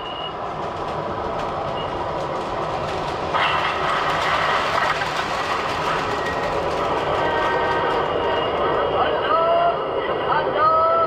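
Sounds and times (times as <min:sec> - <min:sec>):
model train rumbling: 0:00.0 - 0:11.0.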